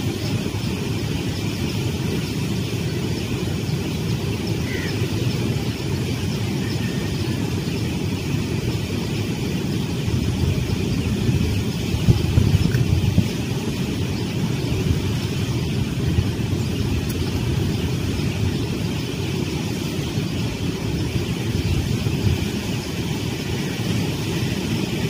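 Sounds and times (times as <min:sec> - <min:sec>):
low rumbling outdoor background noise: 0:00.0 - 0:25.0.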